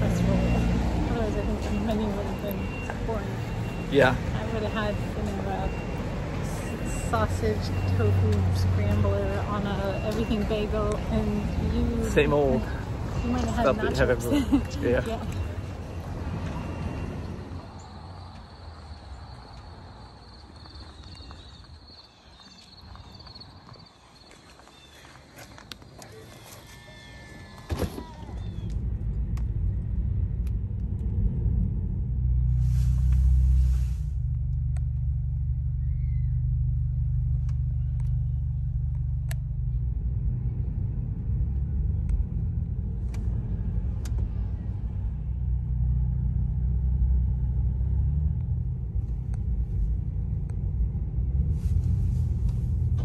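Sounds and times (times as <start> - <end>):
car engine and road rumble: 0.0 - 26.2, 27.6 - 53.0.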